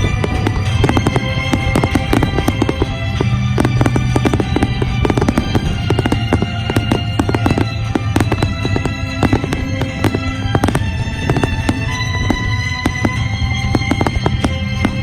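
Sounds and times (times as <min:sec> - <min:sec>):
fireworks popping and banging: 0:00.0 - 0:15.0
music playing: 0:00.0 - 0:15.0.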